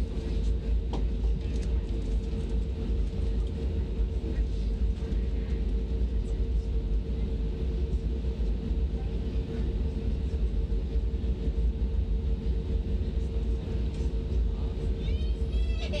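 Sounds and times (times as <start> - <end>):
aircraft engines and wheels rumbling: 0.0 - 16.0
constant hum: 0.0 - 16.0.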